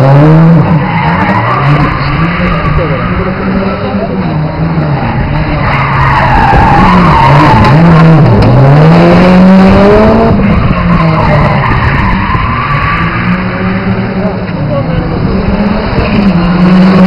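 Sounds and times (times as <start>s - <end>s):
rally car engine working hard: 0.0s - 17.0s
tyres skidding on tarmac: 0.0s - 17.0s.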